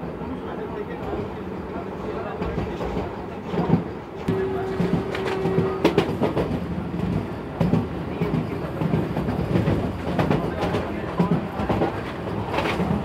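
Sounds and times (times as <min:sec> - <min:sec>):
train running rumble: 0:02.3 - 0:13.0.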